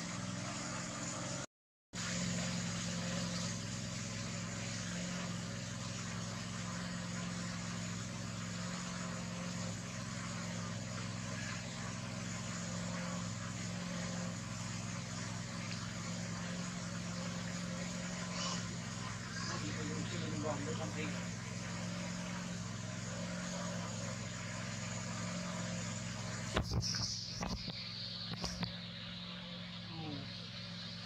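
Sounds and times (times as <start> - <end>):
low motor hum: 0.0 - 31.0.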